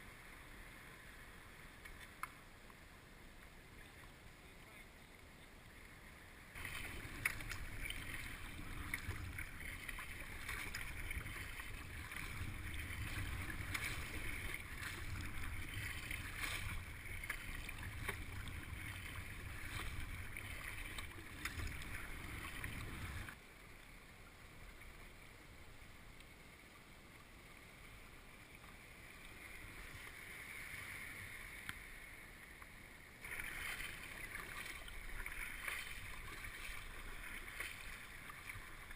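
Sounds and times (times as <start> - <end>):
water splashing against kayak: 3.5 - 23.4, 27.6 - 38.9.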